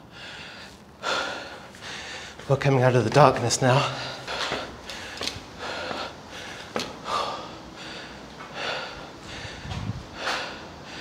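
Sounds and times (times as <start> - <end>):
man breathing hard: 0.0 - 2.5, 3.7 - 11.0.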